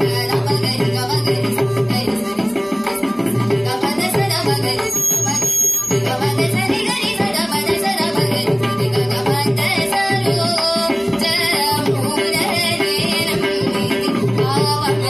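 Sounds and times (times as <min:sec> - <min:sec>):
girl singing: 0:00.0 - 0:05.0, 0:05.9 - 0:15.0.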